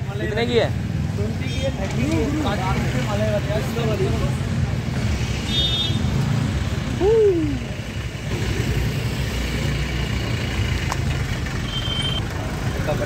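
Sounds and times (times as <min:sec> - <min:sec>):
motorcycles and cars passing: 0:00.0 - 0:13.0.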